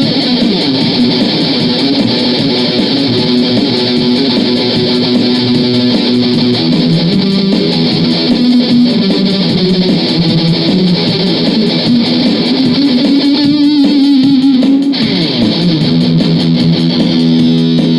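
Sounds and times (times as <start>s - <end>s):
electric guitar playing: 0.0s - 17.9s.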